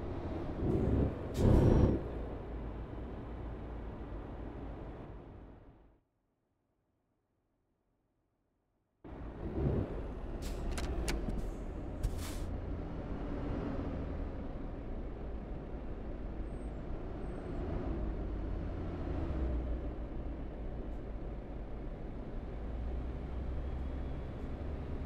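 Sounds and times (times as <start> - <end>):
car engine and road noise: 0.0 - 6.0, 9.0 - 25.0.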